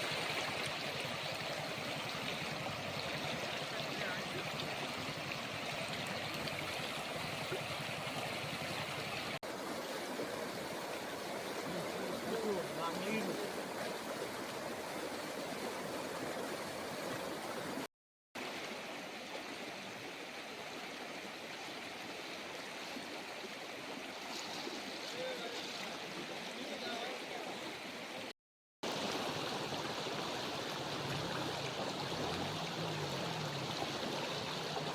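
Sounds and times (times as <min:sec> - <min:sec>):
stream rushing over causeway: 0:00.0 - 0:34.9.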